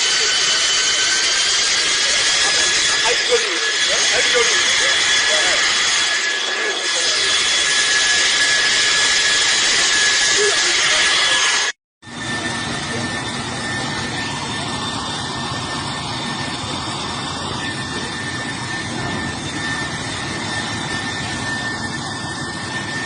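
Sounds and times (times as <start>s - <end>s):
jet engine running: 0.0s - 23.0s.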